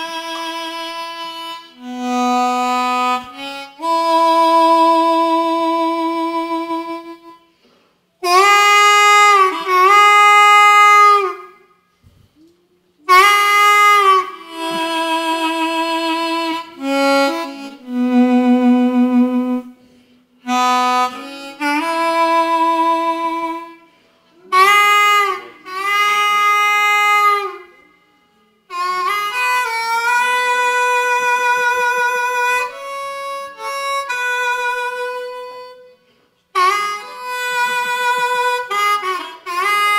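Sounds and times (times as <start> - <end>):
blues harmonica playing: 0.0 - 7.6, 8.2 - 11.7, 13.0 - 39.9.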